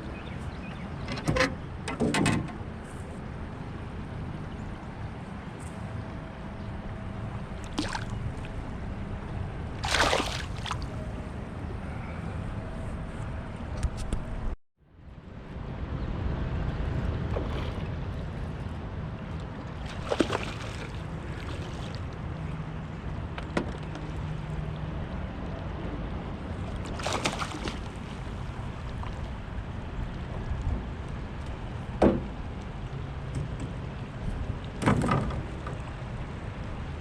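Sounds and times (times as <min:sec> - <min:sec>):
wind and water around boat: 0:00.0 - 0:37.0.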